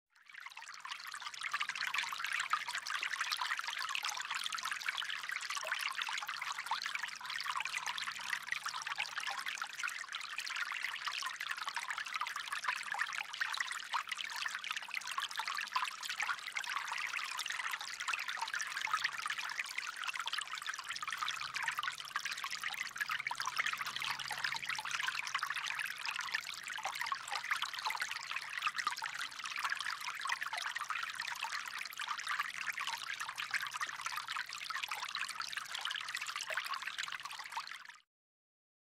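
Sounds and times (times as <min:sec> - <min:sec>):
water trickling: 0:00.3 - 0:37.9.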